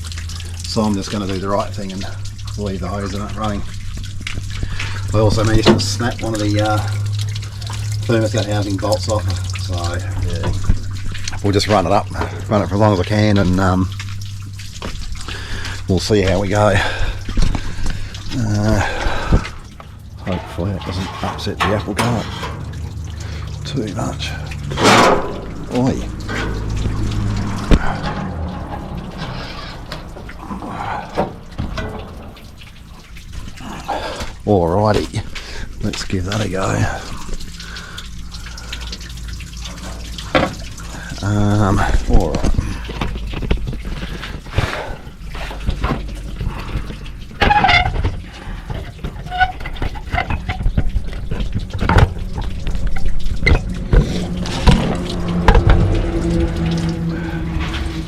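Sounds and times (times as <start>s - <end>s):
water running from hose: 0.0s - 58.0s.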